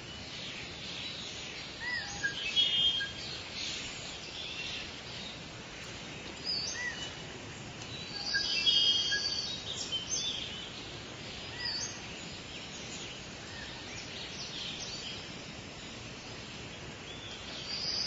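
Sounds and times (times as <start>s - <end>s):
background hiss: 0.0s - 18.0s
birds singing and calling: 0.0s - 18.0s.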